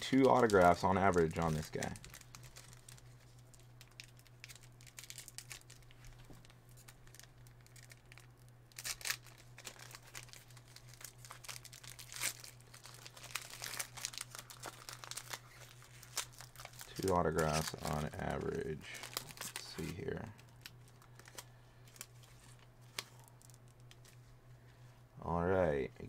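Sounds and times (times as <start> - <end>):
plastic wrapping crinkling: 0.0 - 24.4
steady low hum: 0.0 - 26.0.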